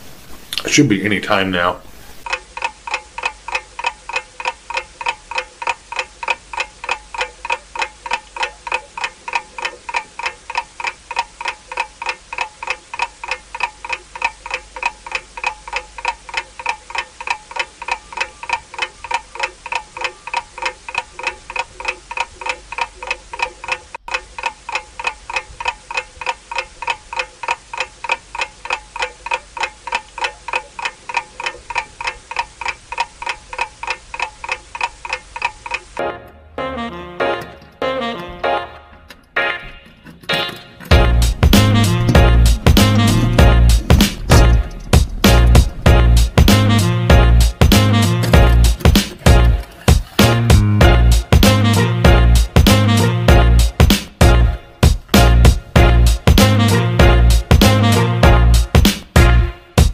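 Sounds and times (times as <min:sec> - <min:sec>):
clock ticking: 0:02.2 - 0:59.9.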